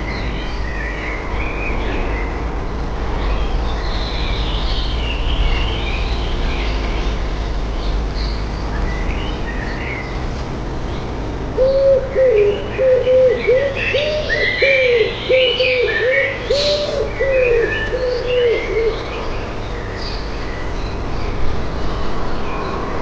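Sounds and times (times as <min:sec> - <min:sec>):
birds chirping: 0:03.2 - 0:21.6.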